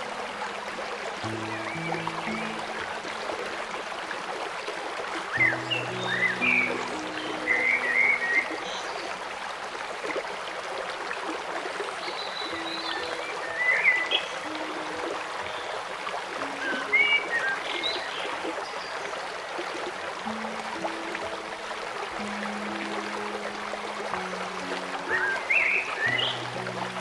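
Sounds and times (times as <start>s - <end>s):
stream rushing: 0.0s - 27.0s.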